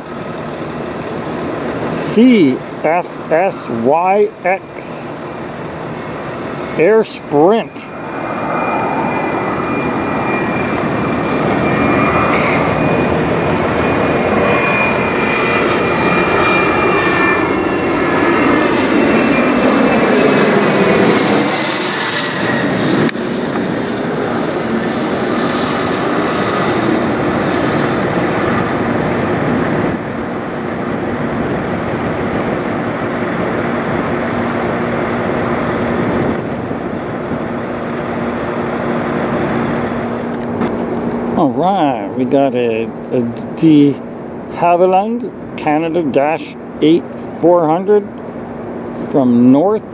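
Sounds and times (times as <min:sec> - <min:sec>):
jet passing overhead: 0:00.0 - 0:49.9.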